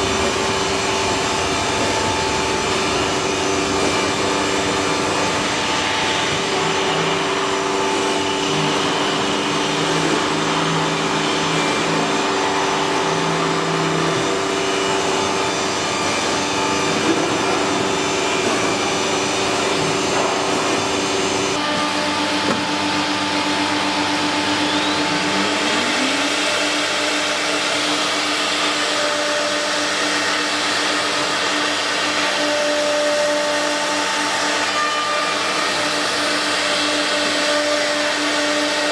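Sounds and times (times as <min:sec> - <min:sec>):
router machine whirring: 0:00.0 - 0:38.9.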